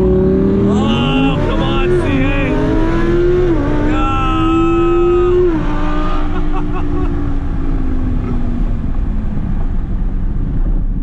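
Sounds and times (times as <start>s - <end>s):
car engine heard from cabin: 0.0s - 11.0s
road and wind noise: 0.0s - 11.0s.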